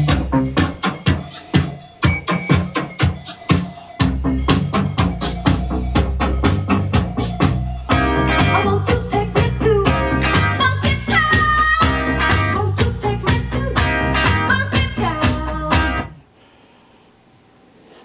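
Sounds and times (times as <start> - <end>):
song with singing and guitar: 0.0 - 16.2.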